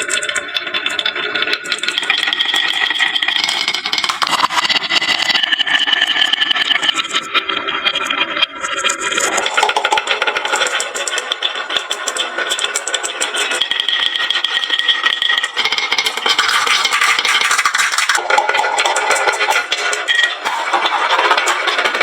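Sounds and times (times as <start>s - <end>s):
marbles rattling down wooden run: 0.0s - 22.0s.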